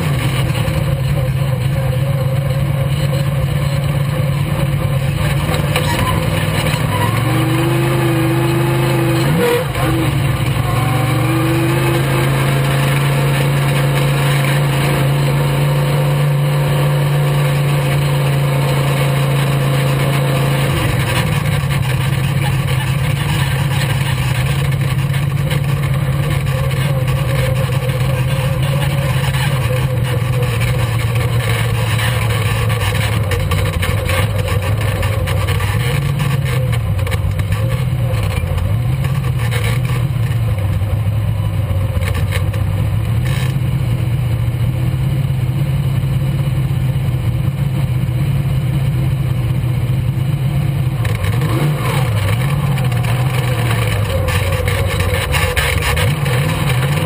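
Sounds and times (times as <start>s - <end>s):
race car engine running: 0.0s - 57.0s.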